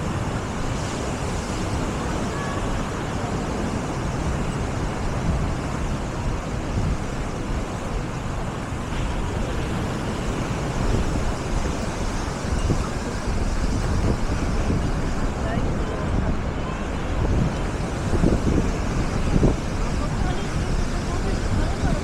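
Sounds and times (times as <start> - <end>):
surf washing: 0.0 - 22.0
wind rumbling on microphone: 0.0 - 22.0.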